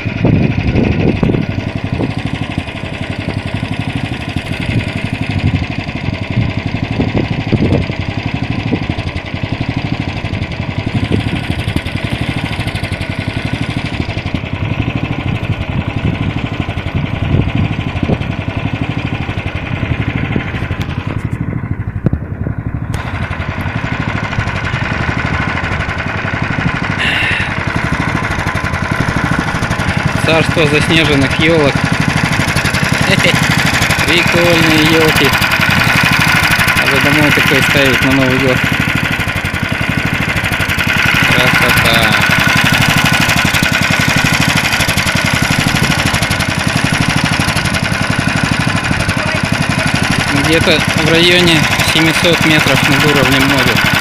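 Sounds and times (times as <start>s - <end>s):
low thumps and buffeting: 0.0s - 54.0s
snowmobile engine running: 0.0s - 54.0s.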